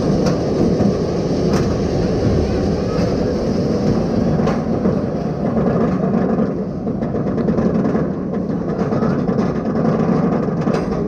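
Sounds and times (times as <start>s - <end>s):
roller coaster lift chain clatter: 0.0s - 11.0s.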